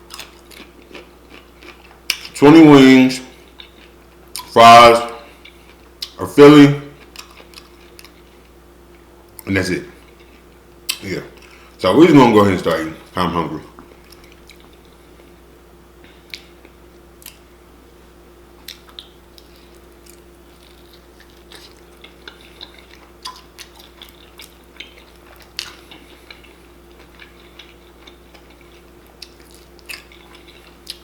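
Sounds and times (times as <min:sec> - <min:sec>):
eating and chewing: 0:00.0 - 0:17.5, 0:18.6 - 0:31.0
low room hum: 0:00.0 - 0:31.0.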